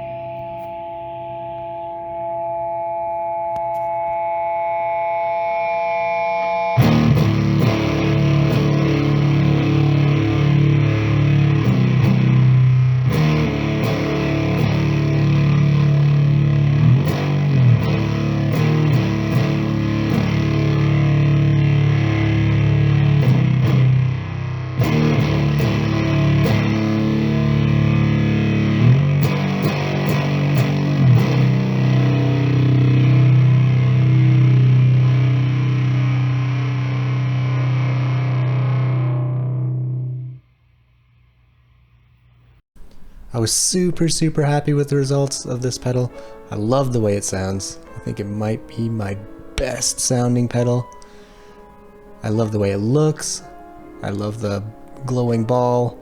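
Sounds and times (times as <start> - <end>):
distorted fuzz electric guitar: 0.0 - 3.0, 3.6 - 40.6, 42.8 - 56.0.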